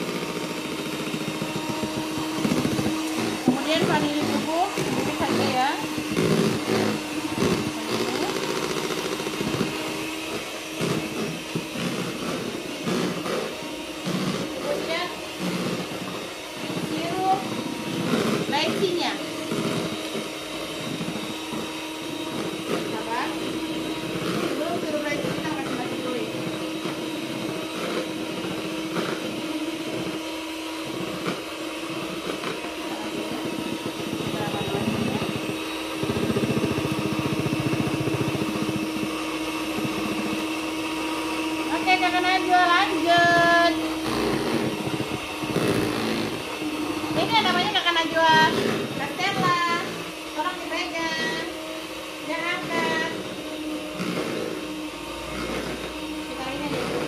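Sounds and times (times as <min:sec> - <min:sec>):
electric hand mixer whipping batter: 0:00.0 - 0:57.0.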